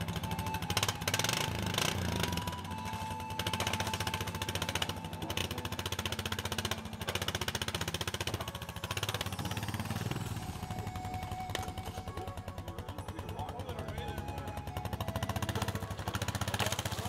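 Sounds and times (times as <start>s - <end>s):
atv engine at low throttle: 0.0s - 17.0s.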